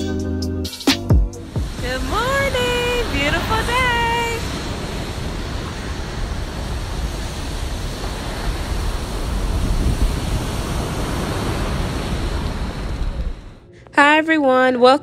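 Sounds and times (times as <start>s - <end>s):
ocean surf breaking: 1.4s - 13.7s
wind rumbling on microphone: 1.5s - 13.6s.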